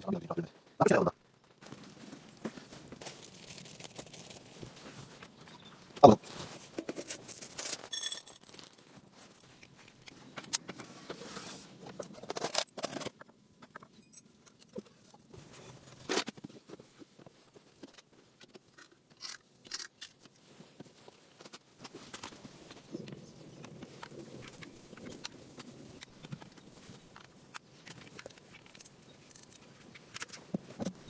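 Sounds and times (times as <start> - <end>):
objects being handled: 1.4 - 31.0.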